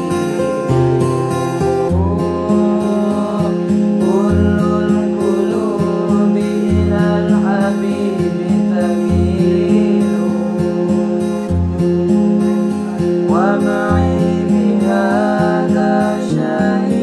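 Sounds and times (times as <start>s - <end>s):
bass notes: 0.0s - 5.2s, 5.9s - 17.0s
strummed acoustic guitar: 0.0s - 17.0s
boys singing a duet: 1.9s - 12.4s, 13.3s - 17.0s.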